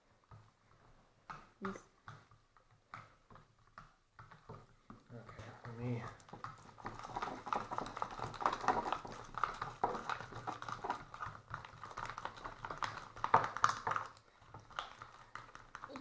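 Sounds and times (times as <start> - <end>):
spoons stirring slime in plastic cups: 0.0 - 16.0.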